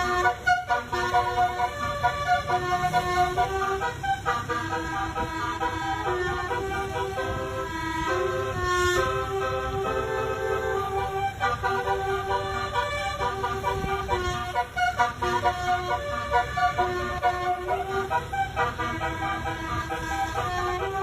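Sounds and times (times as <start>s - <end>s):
musical vehicle horn melody: 0.0s - 21.0s.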